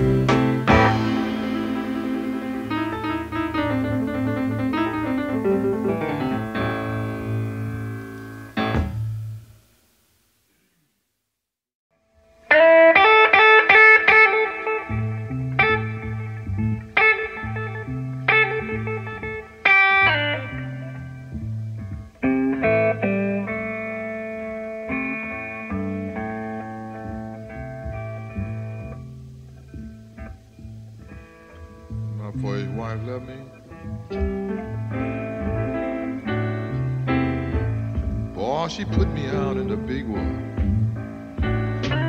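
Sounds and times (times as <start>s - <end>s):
electric blues music: 0.0s - 9.7s, 12.1s - 42.0s.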